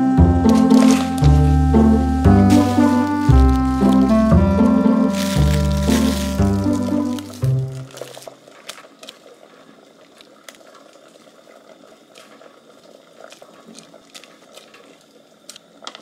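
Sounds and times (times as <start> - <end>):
soup boiling and bubbling: 0.2 - 16.0.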